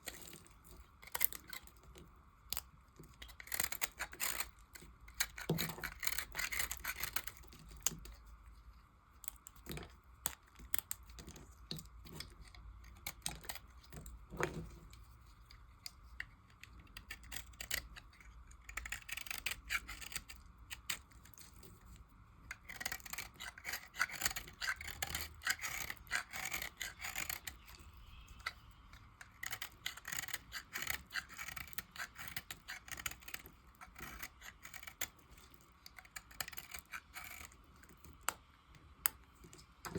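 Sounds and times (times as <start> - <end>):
blade carving bar soap: 0.0 - 8.3, 9.2 - 39.9.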